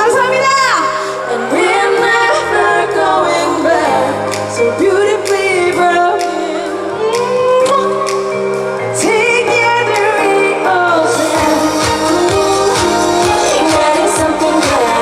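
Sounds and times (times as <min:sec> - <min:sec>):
woman singing with vibrato: 0:00.0 - 0:08.2, 0:08.9 - 0:15.0
band accompaniment: 0:00.0 - 0:15.0.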